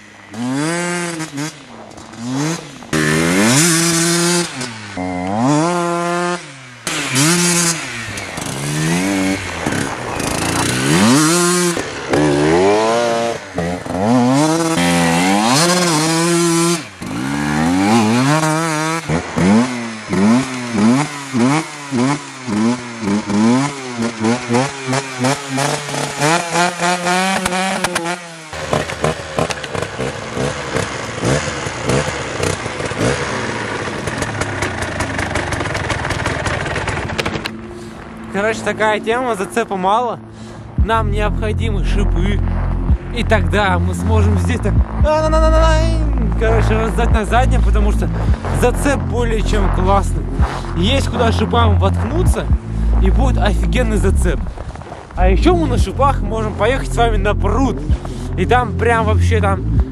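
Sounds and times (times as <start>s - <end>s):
motorbike engine idling: 0.0s - 39.2s, 42.5s - 59.9s
motorbike engine revving: 0.0s - 59.9s.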